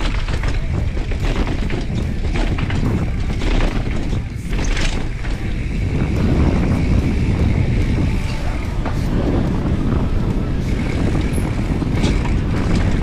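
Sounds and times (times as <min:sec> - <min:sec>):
bicycle clattering down stone steps: 0:00.0 - 0:08.1, 0:08.8 - 0:13.0
wind rumble on microphone: 0:00.0 - 0:13.0.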